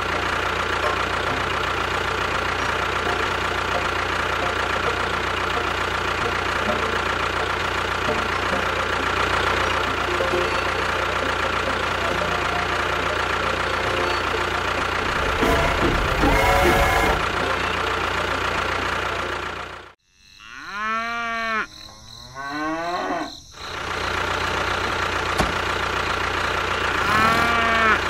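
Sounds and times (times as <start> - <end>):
tractor engine idling: 0.0 - 20.0, 23.6 - 28.0.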